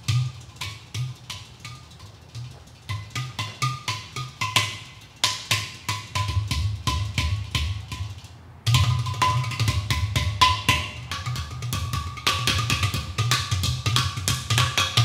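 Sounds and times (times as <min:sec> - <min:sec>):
clay pot drums slapped: 0:02.9 - 0:15.0.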